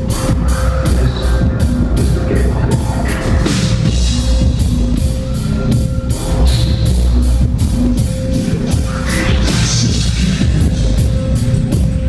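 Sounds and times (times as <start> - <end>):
industrial band playing live: 0.0 - 12.0.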